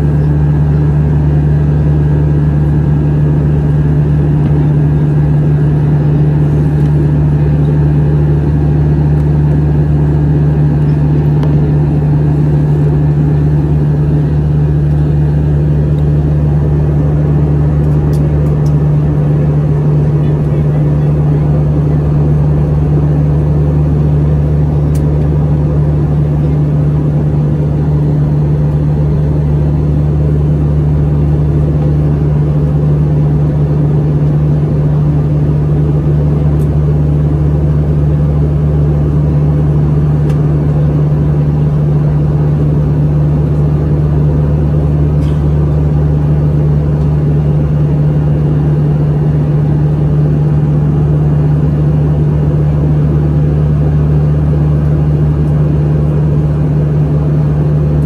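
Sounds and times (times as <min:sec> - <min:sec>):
constant low hum: 0:00.0 - 0:58.0
jet engines droning: 0:00.0 - 0:58.0.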